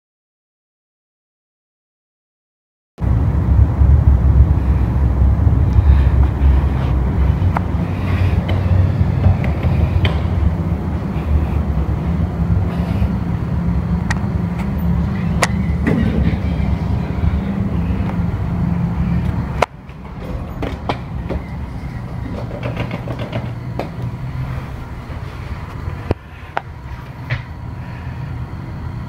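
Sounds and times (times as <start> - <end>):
elevator rumble and hum: 3.0 - 29.0
quiet hum: 3.0 - 29.0.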